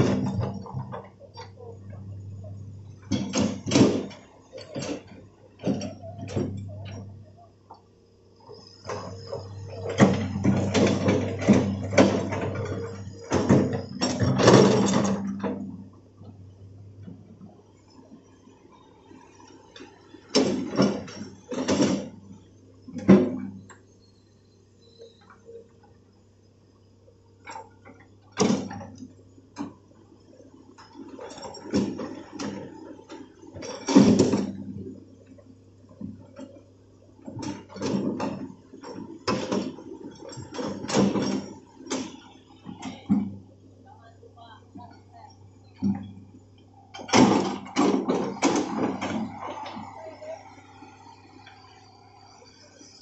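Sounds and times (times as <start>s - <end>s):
excavator diesel engine droning: 0.0s - 53.0s.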